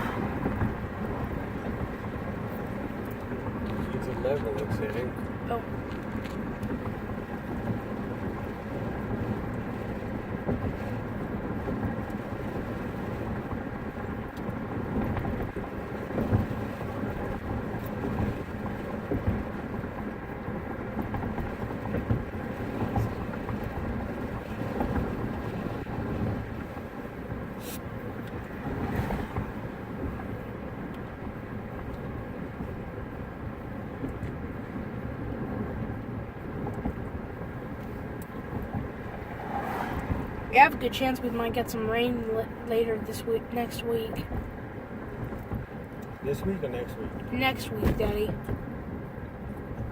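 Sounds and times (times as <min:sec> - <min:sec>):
car road and engine noise: 0:00.0 - 0:49.9.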